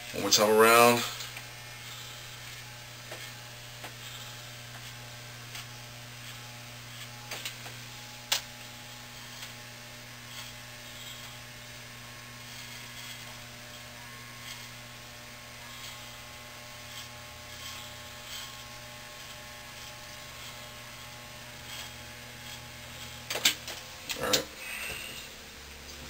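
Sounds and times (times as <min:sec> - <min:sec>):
electric hair clippers buzzing: 0:00.0 - 0:26.0.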